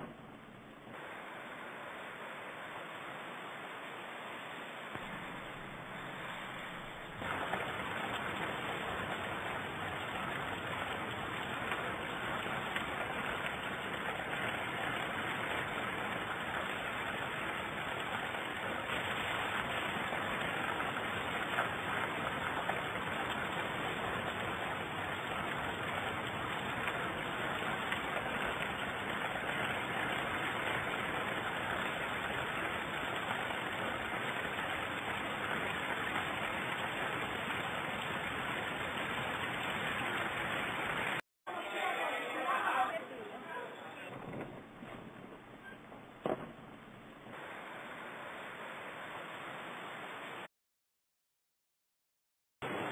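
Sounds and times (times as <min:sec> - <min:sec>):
heavy rain falling: 0:00.0 - 0:50.5, 0:52.6 - 0:52.9.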